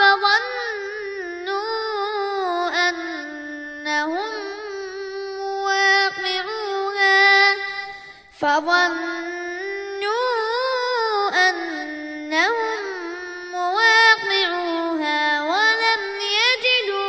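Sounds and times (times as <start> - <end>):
child reciting melodically: 0.0 - 17.0.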